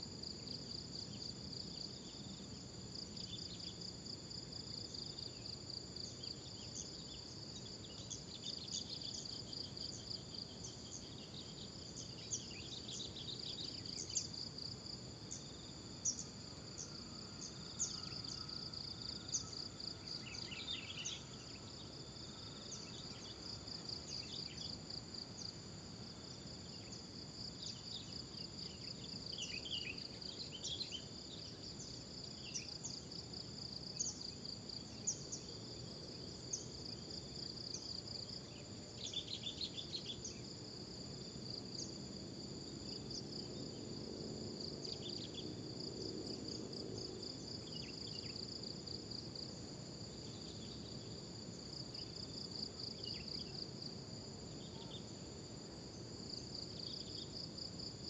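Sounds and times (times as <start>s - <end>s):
insects chorus pulsing: 0.2s - 58.0s.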